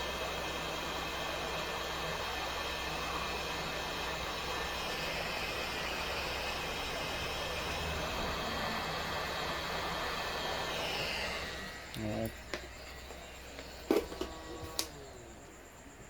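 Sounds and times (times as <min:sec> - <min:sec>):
hot air blower hissing: 0:00.0 - 0:16.0.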